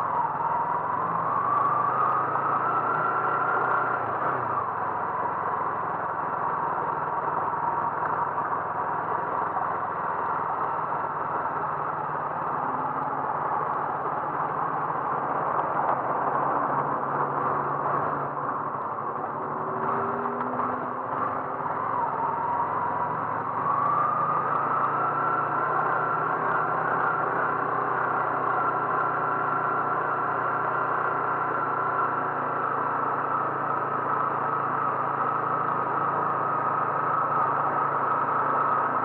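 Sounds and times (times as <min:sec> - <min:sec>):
car engine hum: 0:00.0 - 0:39.0
road noise: 0:00.0 - 0:39.0.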